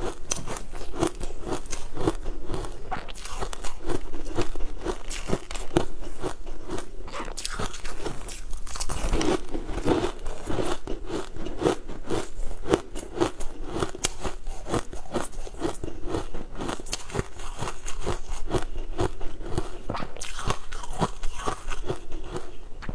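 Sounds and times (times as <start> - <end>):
mouth crunching and chewing: 0.0 - 22.9.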